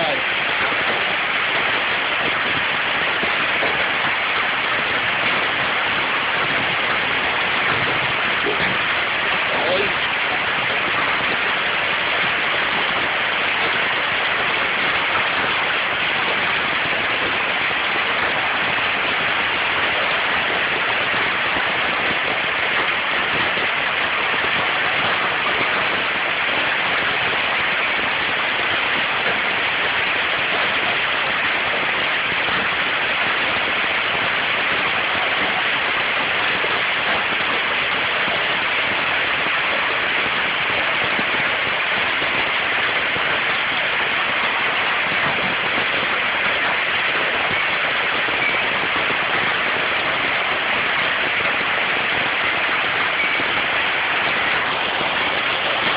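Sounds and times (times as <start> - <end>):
hail falling: 0.0 - 55.9.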